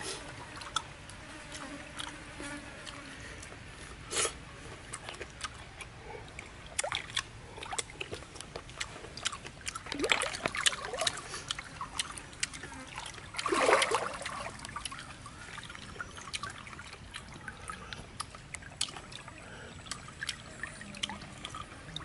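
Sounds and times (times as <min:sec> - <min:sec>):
clicks and wet smacks eating snails: 0:00.6 - 0:01.2, 0:04.2 - 0:22.0.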